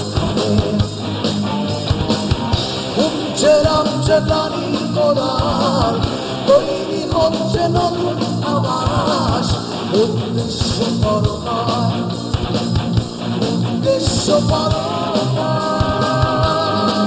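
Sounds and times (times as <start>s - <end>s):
man singing lead vocal: 0.0s - 1.0s, 2.8s - 12.4s, 13.4s - 17.0s
bass guitar: 0.0s - 17.0s
drum kit: 0.0s - 17.0s
electric guitar: 0.0s - 17.0s.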